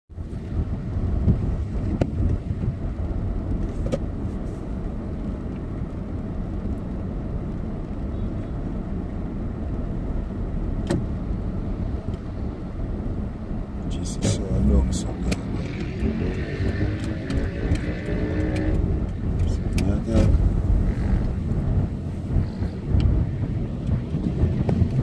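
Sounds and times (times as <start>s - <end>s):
engine and tyres rumbling: 0.1s - 25.0s.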